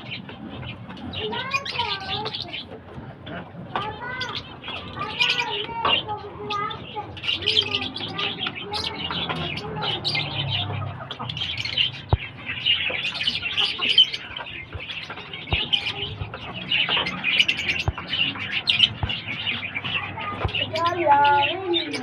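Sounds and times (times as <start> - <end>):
lovebirds chirping and chattering: 0.0 - 22.0.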